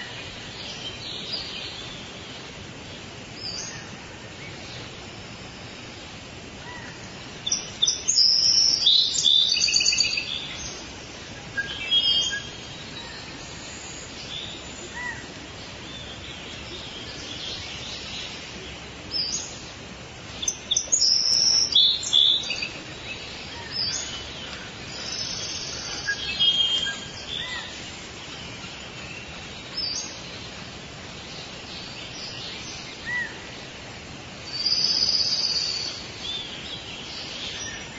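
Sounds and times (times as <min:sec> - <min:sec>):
background hiss: 0:00.0 - 0:37.9
songbirds singing: 0:00.0 - 0:37.9.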